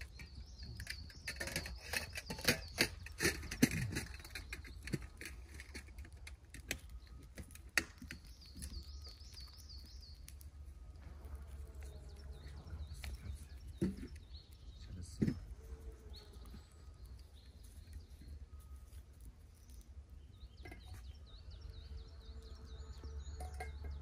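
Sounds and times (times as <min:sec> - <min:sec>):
bird chirping: 0:00.0 - 0:24.0.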